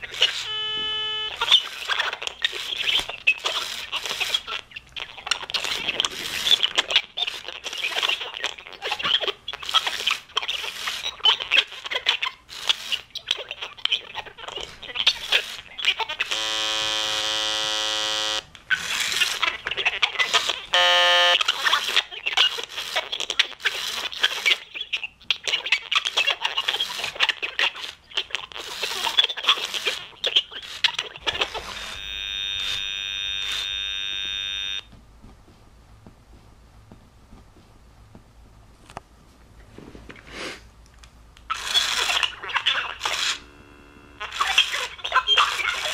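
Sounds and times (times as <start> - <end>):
toy crackling and crunching: 0.0 - 34.9, 41.4 - 45.9.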